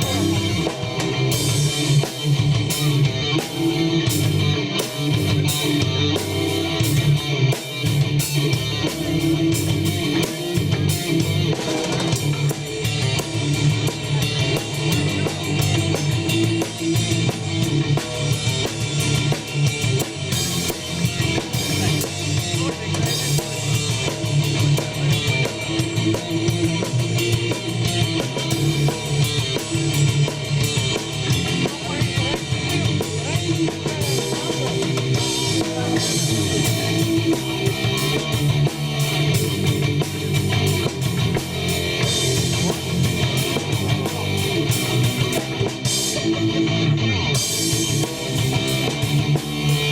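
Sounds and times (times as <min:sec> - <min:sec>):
drum kit steady beat: 0:00.0 - 0:49.9
electric guitars: 0:00.0 - 0:49.9.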